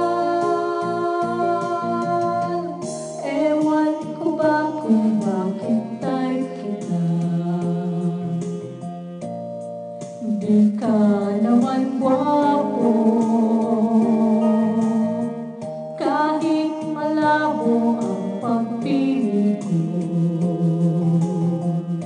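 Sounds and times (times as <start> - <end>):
person singing: 0.0 - 9.0, 10.2 - 22.0
instrumental backing music: 0.0 - 22.0.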